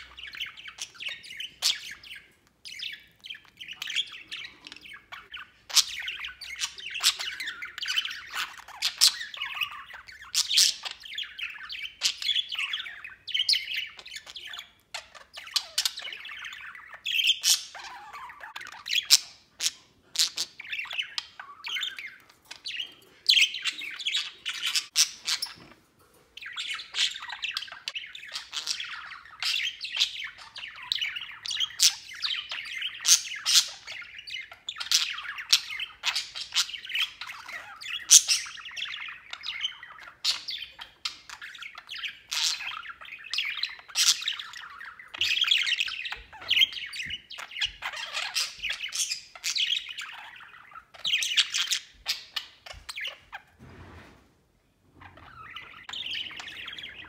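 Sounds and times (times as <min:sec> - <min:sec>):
budgerigars warbling and chattering: 0:00.0 - 0:25.8, 0:26.4 - 0:53.6, 0:54.9 - 0:57.0.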